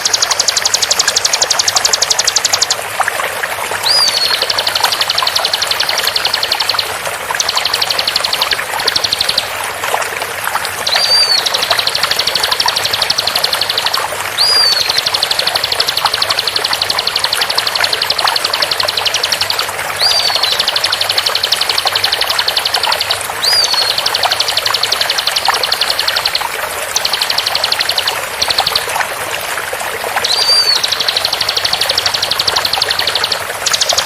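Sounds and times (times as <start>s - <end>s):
bird rapid high notes: 0.0s - 2.8s, 3.8s - 9.5s, 10.8s - 28.9s, 30.2s - 34.0s
flowing water hiss: 0.0s - 34.0s.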